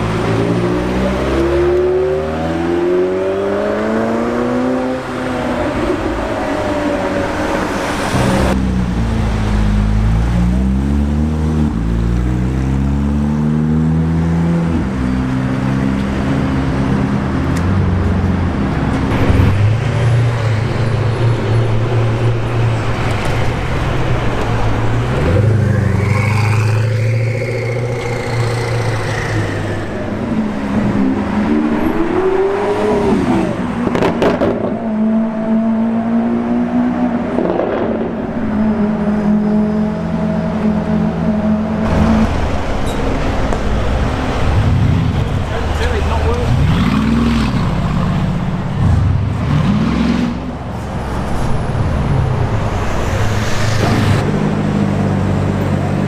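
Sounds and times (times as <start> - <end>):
sports car engines revving: 0.0 - 56.0.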